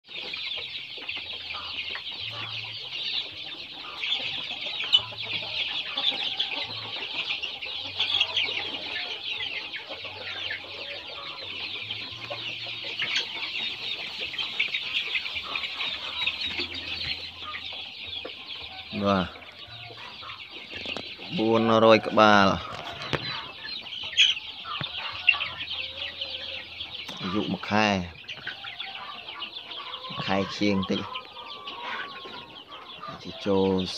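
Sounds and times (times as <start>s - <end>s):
chicks cheeping: 0.1s - 33.9s.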